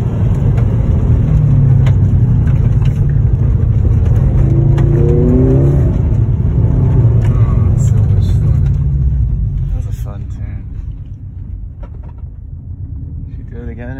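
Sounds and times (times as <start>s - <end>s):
car engine under steady throttle: 0.0s - 13.9s
heavy tyre rumble: 0.0s - 13.9s.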